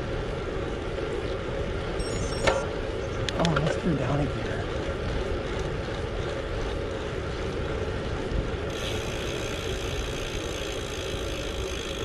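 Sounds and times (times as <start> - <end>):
bike tyres rolling: 0.0 - 12.0.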